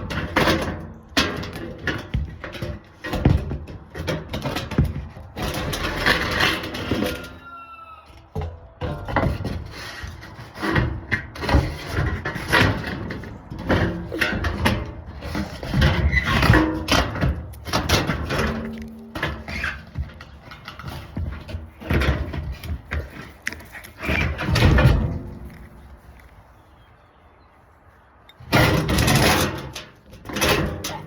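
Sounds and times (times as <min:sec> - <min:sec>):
metal sheet knocking and scraping: 0:00.0 - 0:07.3, 0:08.3 - 0:25.8, 0:28.4 - 0:31.0.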